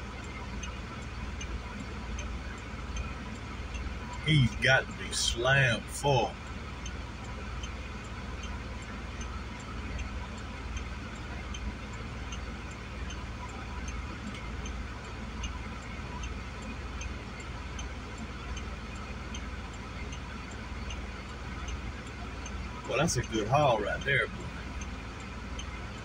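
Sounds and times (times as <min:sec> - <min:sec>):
faint even ticking: 0:00.0 - 0:26.0.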